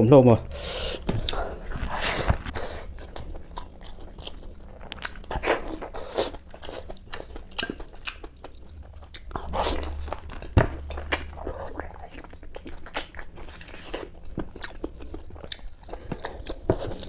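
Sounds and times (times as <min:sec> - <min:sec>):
person chewing with wet smacks: 0:00.5 - 0:17.0.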